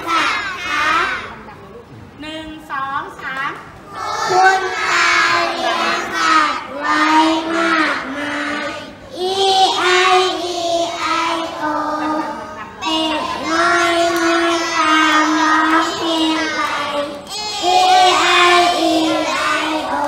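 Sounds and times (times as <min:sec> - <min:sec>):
young children singing: 0:00.0 - 0:01.3, 0:03.9 - 0:20.0.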